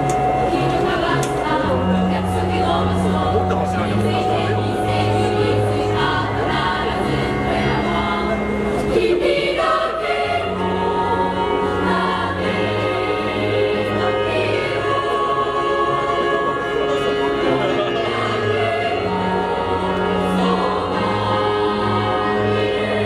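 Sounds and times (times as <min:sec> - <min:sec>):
children's choir singing: 0:00.0 - 0:23.0.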